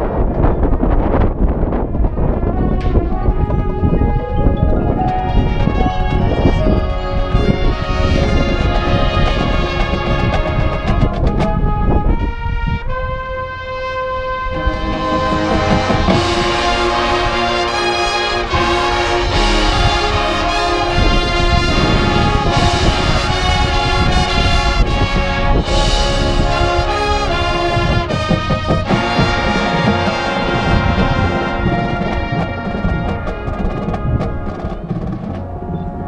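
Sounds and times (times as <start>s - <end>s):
brass section playing chords: 2.0s - 36.0s
percussion ensemble: 2.6s - 12.2s, 14.5s - 36.0s.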